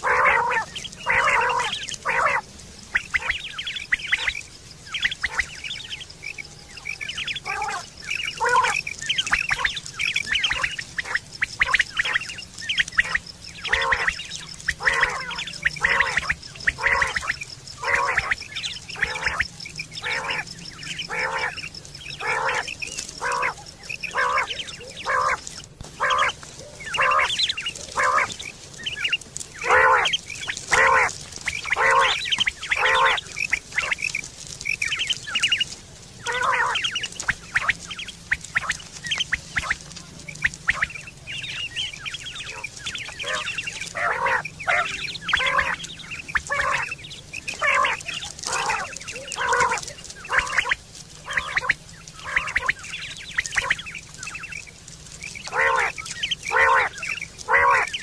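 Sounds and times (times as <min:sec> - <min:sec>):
harsh bird calls: 0:00.0 - 0:58.0.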